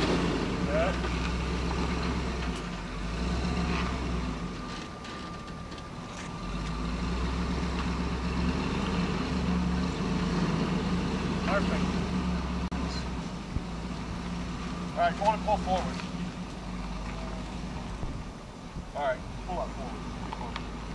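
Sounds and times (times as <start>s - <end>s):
engine running at low revs: 0.0s - 20.9s.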